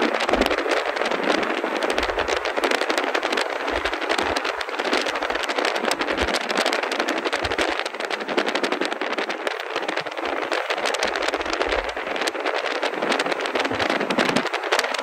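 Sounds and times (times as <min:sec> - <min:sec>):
car wind and road noise: 0:00.0 - 0:15.0
wind buffeting microphone: 0:00.0 - 0:15.0.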